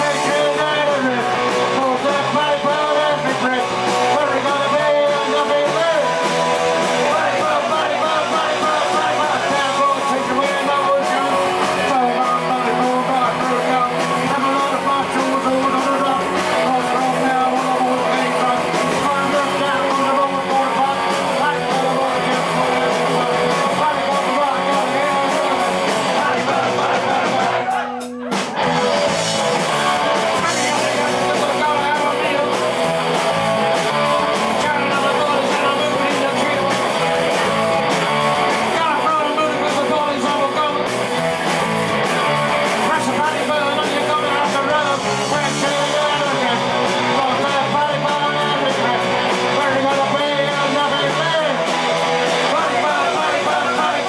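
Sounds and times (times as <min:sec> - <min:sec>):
man singing into a microphone: 0:00.0 - 0:28.2, 0:29.8 - 0:37.6, 0:38.4 - 0:41.3, 0:42.7 - 0:51.7, 0:52.3 - 0:54.0
electric guitars: 0:00.0 - 0:54.0.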